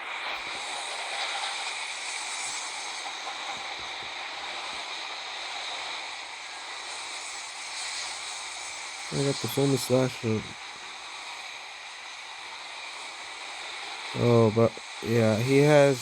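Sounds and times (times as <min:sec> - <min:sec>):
freight train wheels hissing: 0:00.0 - 0:16.0.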